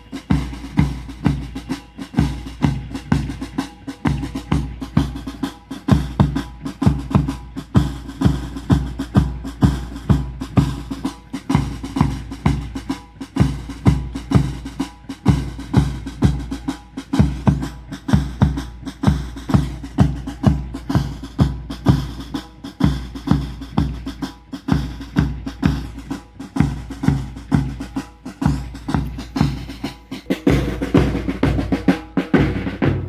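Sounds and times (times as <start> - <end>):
bass drum beat: 0.0 - 33.0
snare drum rolls: 0.0 - 33.0.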